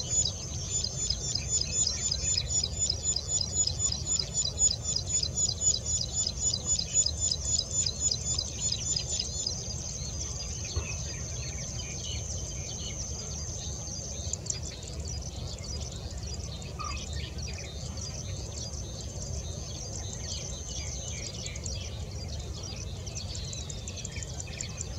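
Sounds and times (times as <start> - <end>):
bird high chirping song: 0.0 - 24.9.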